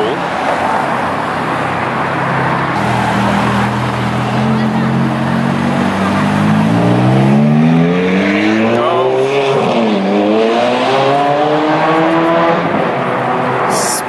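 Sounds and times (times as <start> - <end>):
car engine accelerating hard: 2.3 - 13.8.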